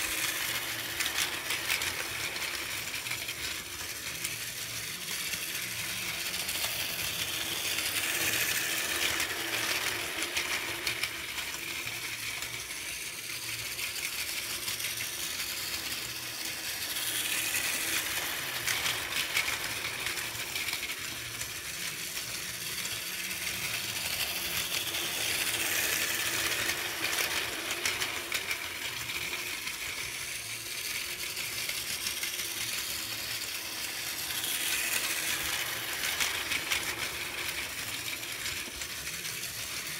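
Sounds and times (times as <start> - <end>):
toy train motors whirring: 0.0 - 39.9
toy train wheels clicking: 0.0 - 39.9.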